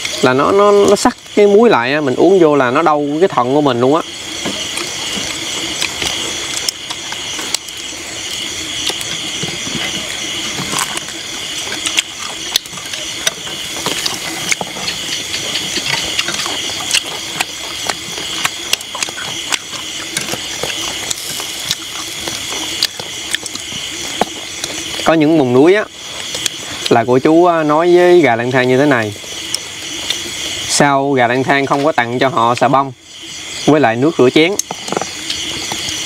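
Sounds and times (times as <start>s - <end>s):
night insects chirring: 0.0s - 36.0s.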